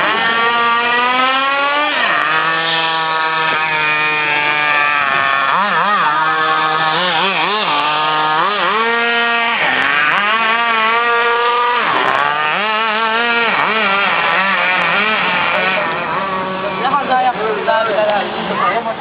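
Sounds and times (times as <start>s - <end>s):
model car engine revving: 0.0s - 18.9s.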